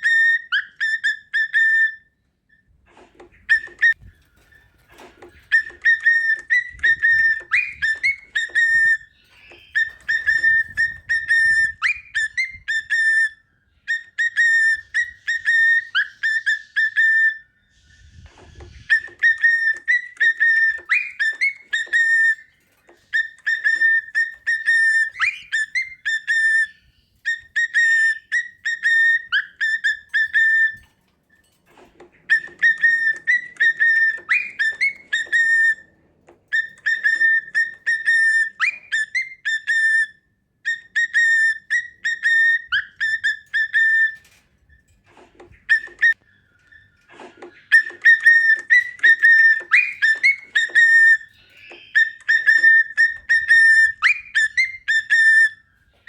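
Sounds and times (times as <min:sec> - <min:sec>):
cockatiel whistling a tune: 0:00.0 - 0:02.1, 0:03.2 - 0:30.9, 0:32.0 - 0:35.9, 0:36.5 - 0:44.4, 0:45.4 - 0:55.8.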